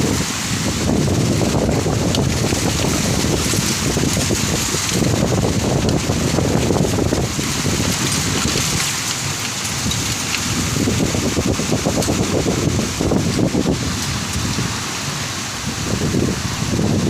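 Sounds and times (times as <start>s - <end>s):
rain hissing: 0.0s - 17.0s
storm wind buffeting microphone: 0.0s - 17.0s.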